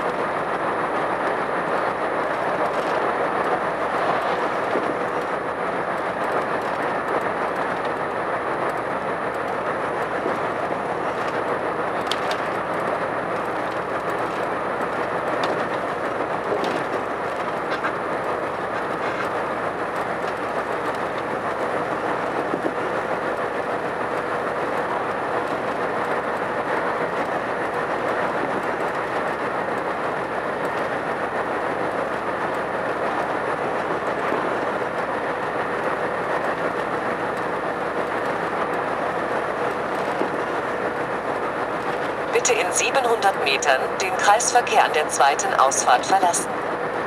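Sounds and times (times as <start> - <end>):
lorry engine and tyre rumble: 0.0 - 43.1.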